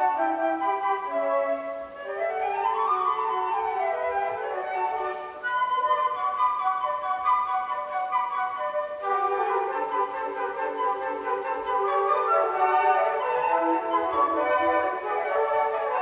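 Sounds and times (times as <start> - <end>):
flute ensemble playing: 0.0 - 16.0.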